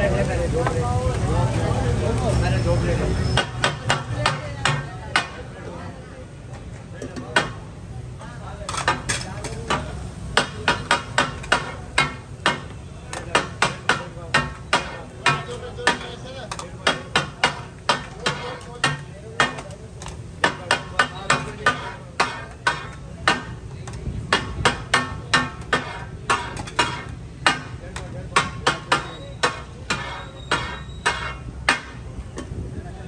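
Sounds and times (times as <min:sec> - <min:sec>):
metal spatulas clanking on griddle: 0:03.2 - 0:05.7, 0:07.0 - 0:07.6, 0:08.6 - 0:32.6.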